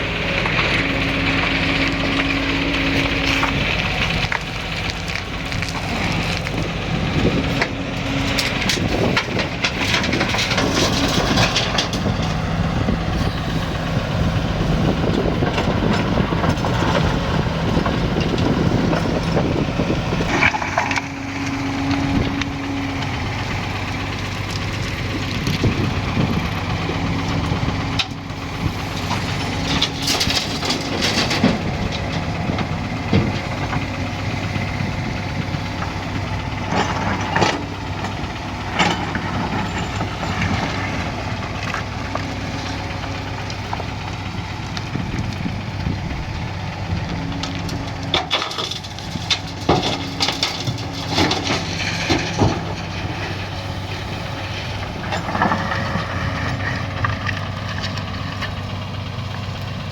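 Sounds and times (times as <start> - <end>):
bucket crunching and scraping: 0.0 - 44.2, 47.2 - 59.2
excavator diesel engine running: 0.0 - 59.9.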